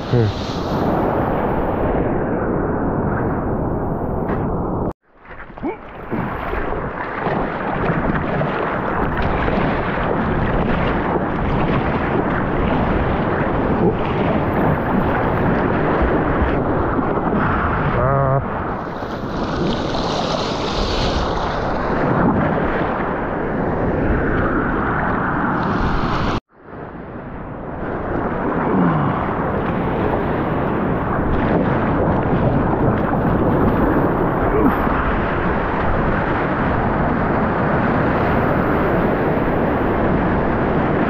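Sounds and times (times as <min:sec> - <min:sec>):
ocean surf rushing: 0:00.0 - 0:05.0, 0:05.9 - 0:41.0
wind buffeting microphone: 0:05.6 - 0:41.0.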